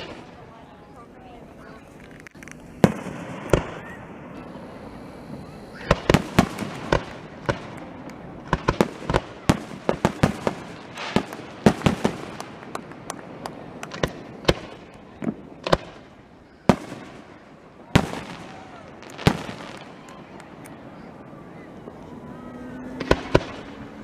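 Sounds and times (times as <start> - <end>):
fireworks booms: 0.0 - 0.5, 2.0 - 22.0, 22.8 - 24.0
fireworks bangs and crackles: 0.0 - 24.0.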